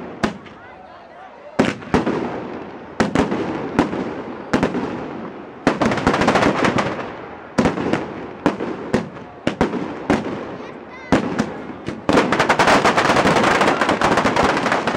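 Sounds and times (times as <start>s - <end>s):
firecracker bangs: 0.0s - 0.6s, 1.6s - 14.9s
rapid firecracker cracks: 1.6s - 10.5s, 11.1s - 14.9s.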